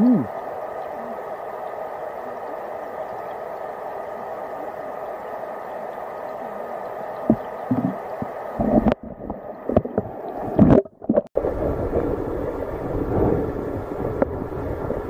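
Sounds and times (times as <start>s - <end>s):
muffled underwater stream rush: 0.0s - 15.0s.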